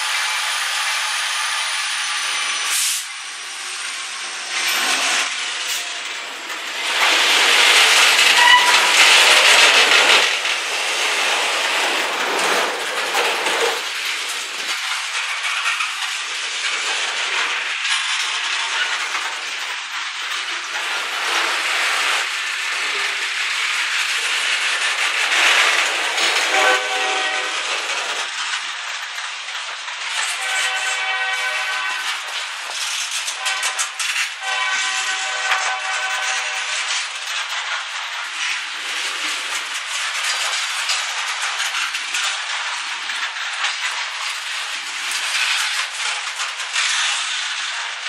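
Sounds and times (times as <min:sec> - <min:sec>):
freight train rolling past: 0:00.0 - 0:48.0.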